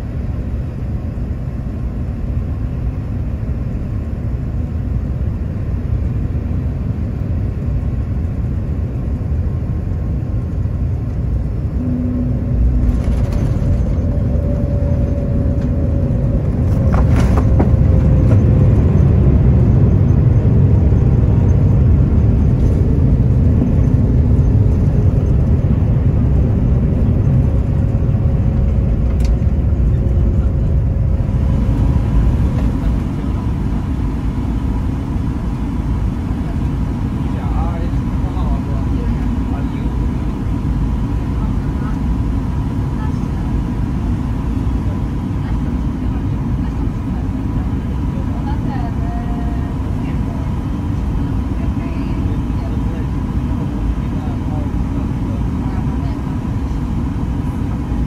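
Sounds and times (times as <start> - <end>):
airliner cabin hum: 0.0 - 58.0
airliner engines and airflow rumble: 0.0 - 58.0.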